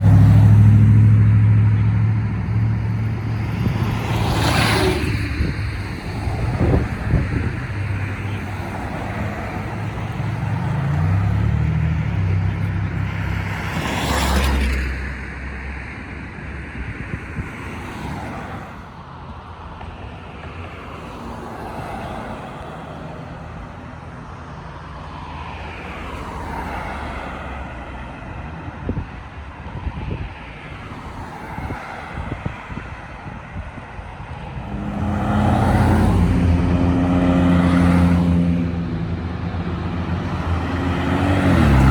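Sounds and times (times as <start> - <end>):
vehicles passing with whoosh: 0.0 - 41.9.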